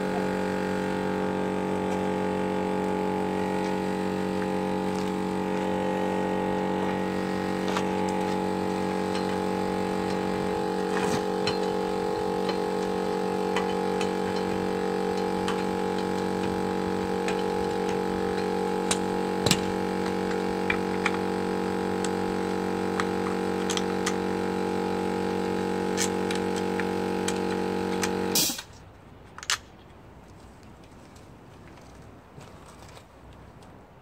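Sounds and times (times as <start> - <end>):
air compressor humming: 0.0 - 28.7.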